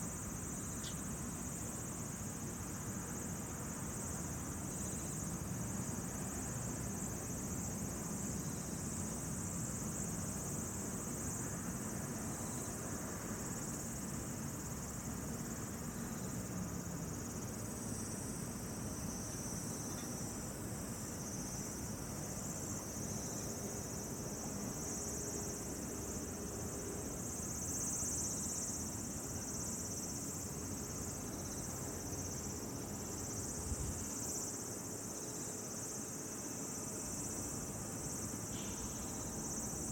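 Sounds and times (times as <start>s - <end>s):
insects chirping: 0.0s - 39.9s
low background hiss: 0.0s - 39.9s.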